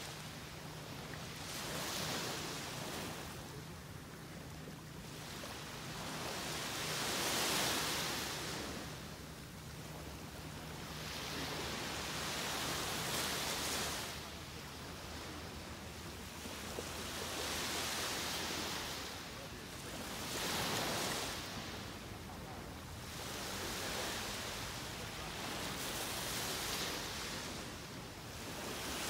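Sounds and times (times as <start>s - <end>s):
waves breaking on a beach: 0.0s - 29.0s.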